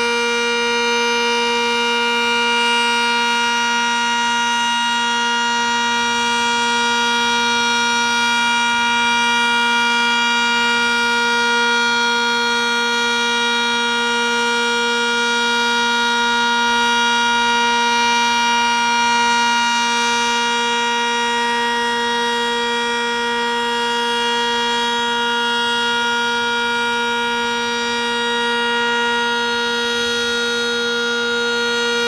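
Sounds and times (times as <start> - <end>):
warning siren: 0.0 - 32.0.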